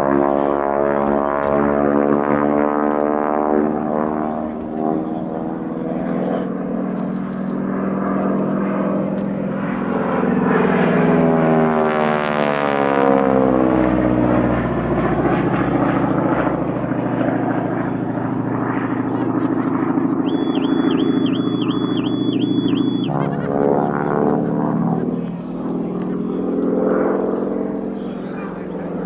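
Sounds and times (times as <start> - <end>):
propeller aircraft radial engine: 0.0 - 29.0.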